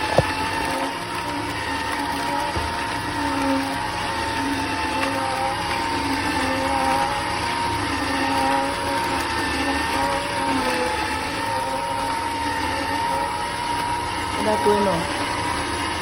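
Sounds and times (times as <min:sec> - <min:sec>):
juicer motor whine: 0:00.0 - 0:16.0.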